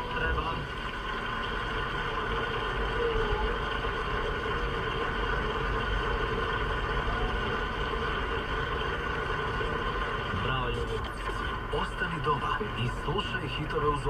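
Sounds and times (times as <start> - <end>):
car interior engine and road noise: 0.0 - 14.0.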